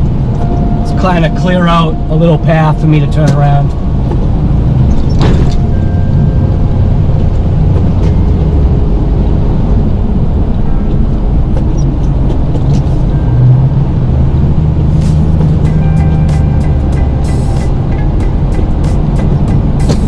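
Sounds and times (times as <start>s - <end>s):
music playing: 0.0s - 11.0s, 12.9s - 20.0s
truck engine running: 0.0s - 20.0s.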